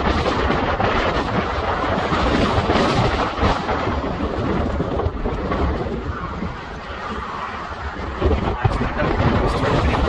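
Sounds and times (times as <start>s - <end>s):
strong wind on microphone: 0.0s - 10.0s.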